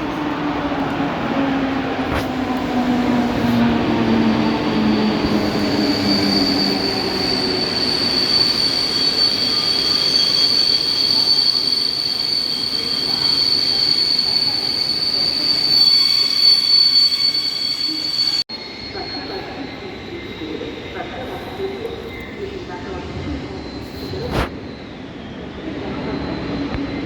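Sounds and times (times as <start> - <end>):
train wheels squealing on rails: 0.0 - 27.0.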